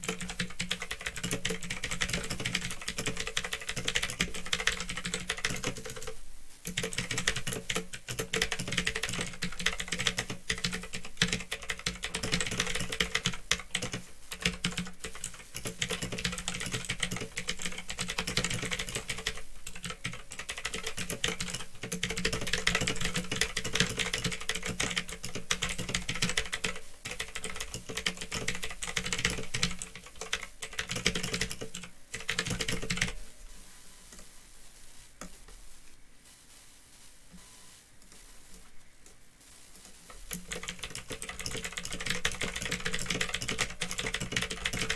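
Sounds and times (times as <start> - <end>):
clicky keyboard typing: 0.0 - 33.2, 40.1 - 44.9.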